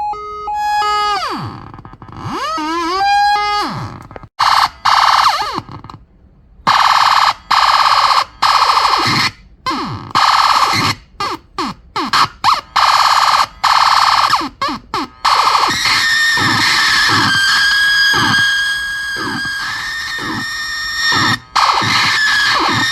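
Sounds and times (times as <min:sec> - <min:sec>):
buzzy electronic noise: 0:00.6 - 0:06.0, 0:06.7 - 0:22.9.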